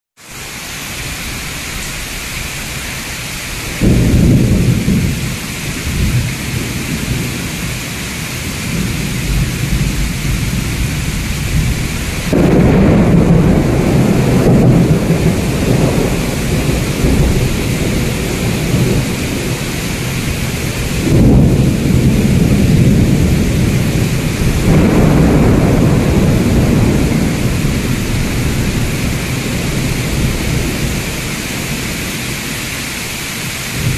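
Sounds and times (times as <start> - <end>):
heavy rain pouring: 0.2 - 33.9
thunder rumbling: 1.0 - 33.9.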